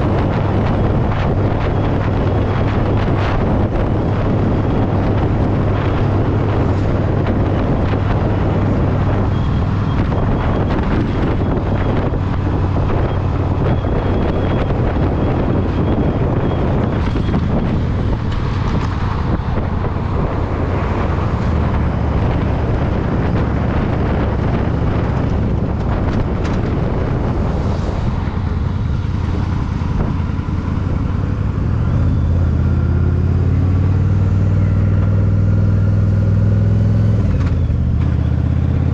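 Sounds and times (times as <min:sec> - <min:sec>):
motorcycle engine running: 0:00.0 - 0:38.9
wind noise: 0:00.0 - 0:38.9.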